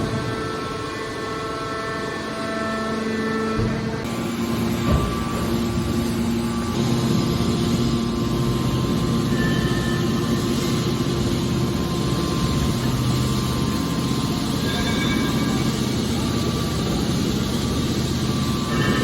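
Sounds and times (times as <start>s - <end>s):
hydraulic power unit droning: 0.0s - 19.0s.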